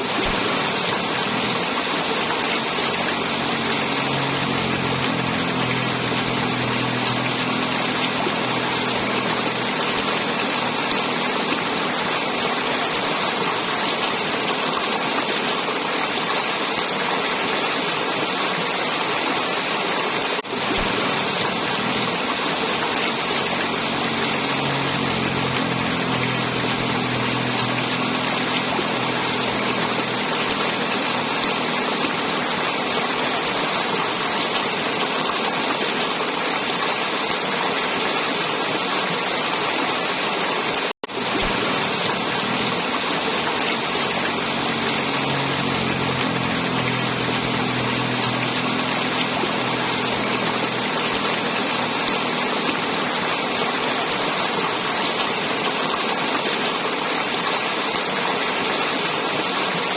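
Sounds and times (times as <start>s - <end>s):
river water flowing and gurgling: 0.0s - 59.9s.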